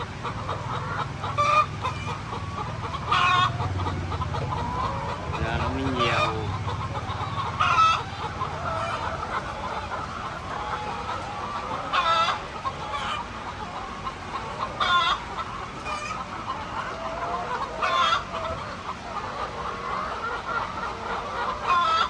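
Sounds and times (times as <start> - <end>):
chickens clucking: 0.0 - 22.0
chicken squawks: 0.2 - 22.0.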